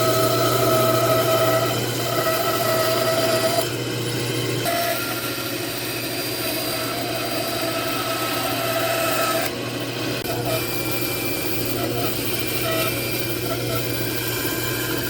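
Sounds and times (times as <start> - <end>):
power tool motor humming and whining: 0.0 - 15.0.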